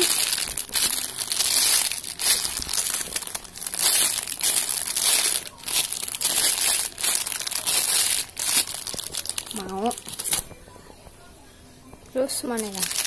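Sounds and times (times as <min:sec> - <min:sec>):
plastic bag crinkling: 0:00.0 - 0:10.6, 0:12.3 - 0:13.0.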